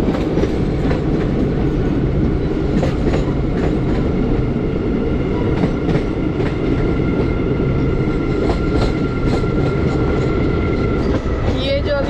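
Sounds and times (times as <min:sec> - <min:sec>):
rail joint clicks: 0:00.0 - 0:04.4, 0:05.2 - 0:12.0
train wheels rumbling on rails: 0:00.0 - 0:12.0.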